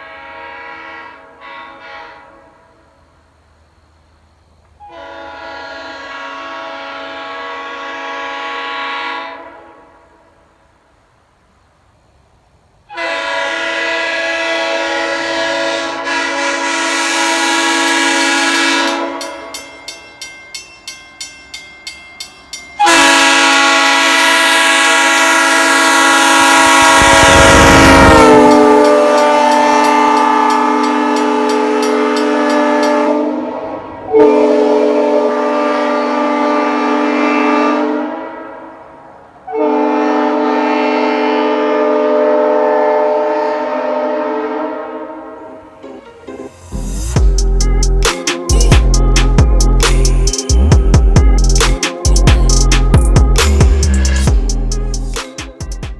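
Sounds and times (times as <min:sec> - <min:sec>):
locomotive air horn chord: 0:00.0 - 0:02.8, 0:04.8 - 0:10.2, 0:12.9 - 0:19.6, 0:22.8 - 0:55.7.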